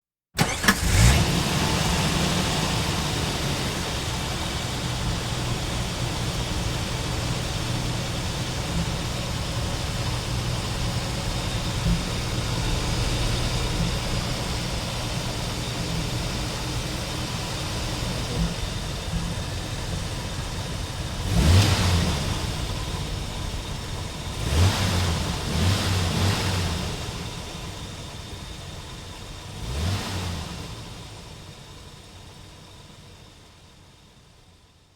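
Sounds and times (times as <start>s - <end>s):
engine revving: 0.4s - 27.9s, 29.4s - 31.2s
car engine starting and idling: 0.4s - 34.9s.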